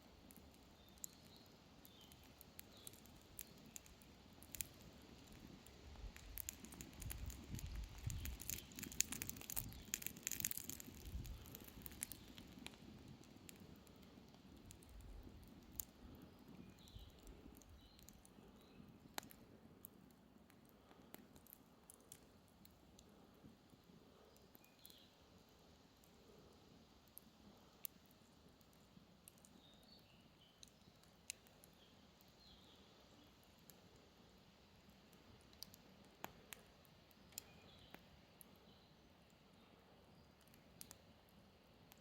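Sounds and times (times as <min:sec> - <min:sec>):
campfire crackling: 0:00.0 - 0:42.0
firewood popping: 0:00.0 - 0:42.0.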